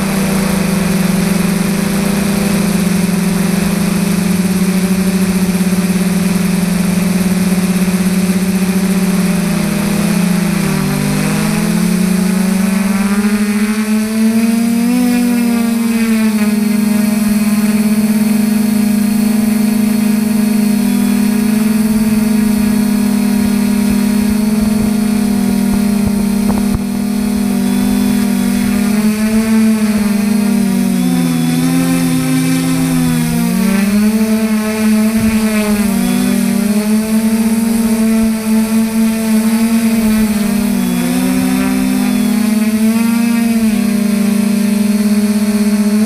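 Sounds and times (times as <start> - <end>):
drone motors buzzing: 0.0 - 46.0.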